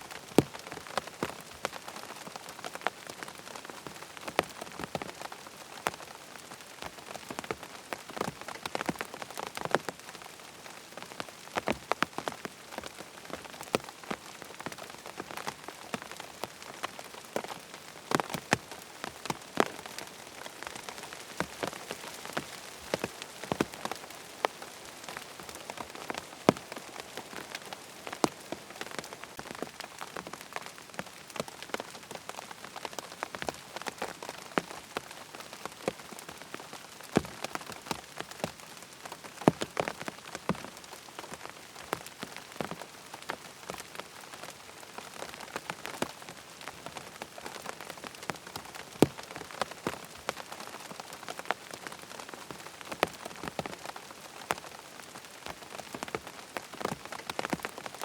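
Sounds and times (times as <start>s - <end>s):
rain pattering on tent fabric: 0.0s - 58.0s.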